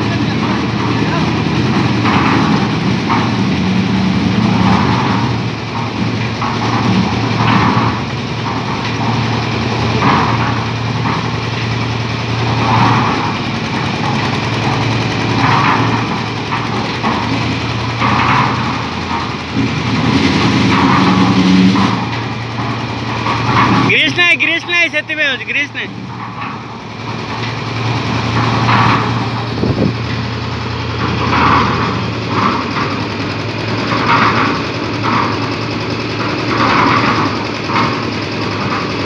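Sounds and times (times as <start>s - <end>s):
concrete mixer engine running: 0.0s - 39.0s.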